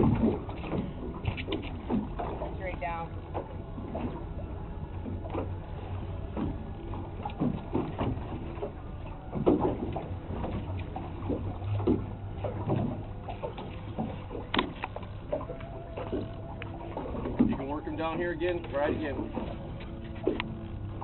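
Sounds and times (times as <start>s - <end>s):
boat engine low drone: 0.0s - 21.0s
water slapping against hull: 0.0s - 21.0s.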